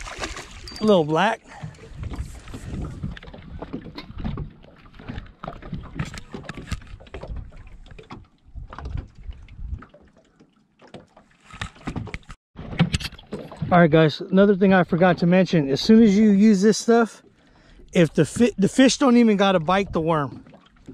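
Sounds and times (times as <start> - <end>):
water against boat hull: 0.0 - 20.9.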